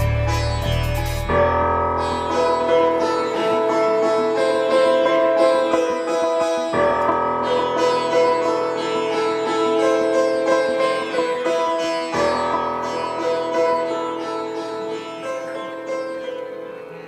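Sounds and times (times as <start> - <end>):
slow instrumental melody: 0.0 - 17.0.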